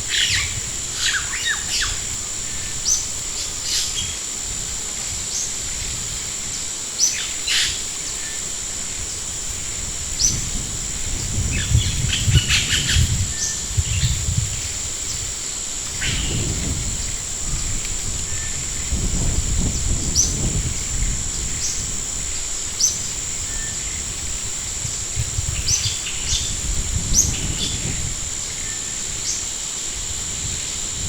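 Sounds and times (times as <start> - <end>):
steady high-pitched whine: 0.0 - 31.0.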